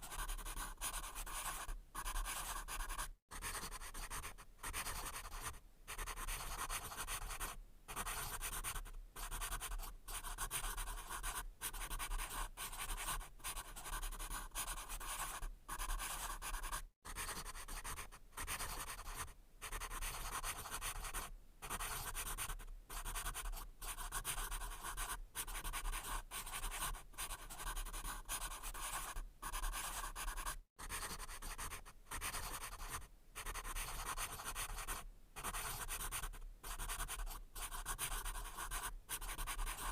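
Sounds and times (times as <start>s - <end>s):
pencil writing on paper: 0.0s - 39.9s.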